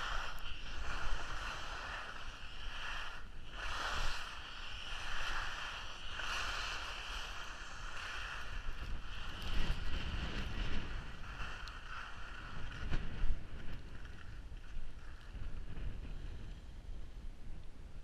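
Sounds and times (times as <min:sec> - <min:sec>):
skis scraping over snow: 0:00.0 - 0:16.7
wind rumble on microphone: 0:00.0 - 0:18.0.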